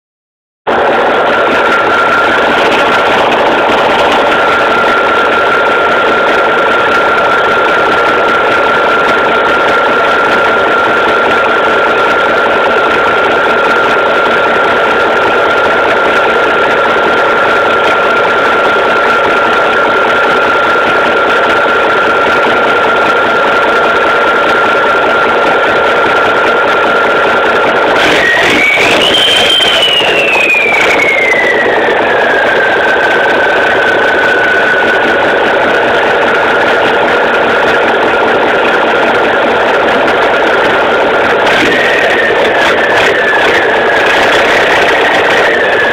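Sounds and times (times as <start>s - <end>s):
diesel engine idling: 0.7s - 45.9s
turbocharger whistle: 0.7s - 45.9s.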